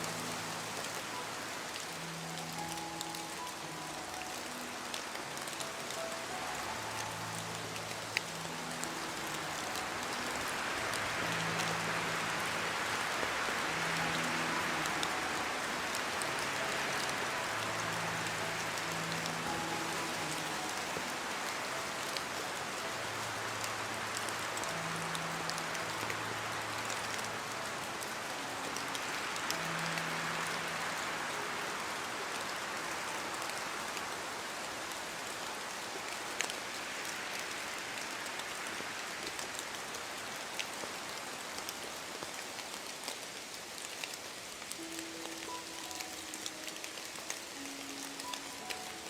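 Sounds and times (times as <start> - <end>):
steady rain: 0.0 - 49.0.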